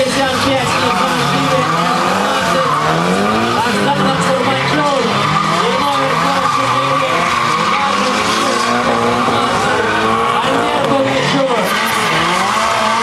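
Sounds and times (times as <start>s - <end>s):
car engines revving: 0.0s - 13.0s
high tyre squeal: 0.0s - 13.0s.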